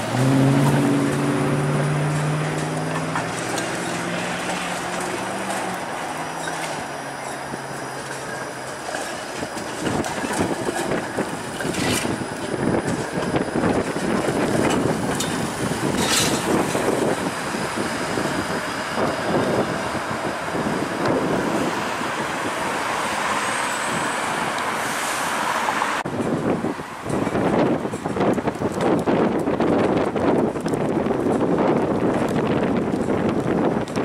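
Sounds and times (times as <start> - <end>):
passing car traffic: 0.0 - 34.0
streetcar running: 0.0 - 34.0
wind on microphone: 0.0 - 34.0.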